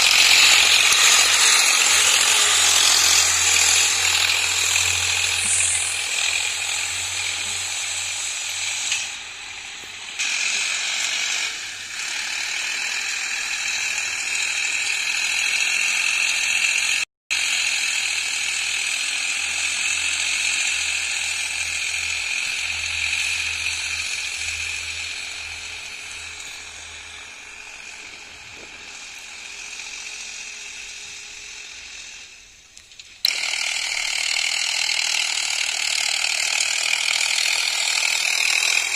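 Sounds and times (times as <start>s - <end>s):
tractor harrow rattling: 0.0s - 16.8s, 18.5s - 38.9s.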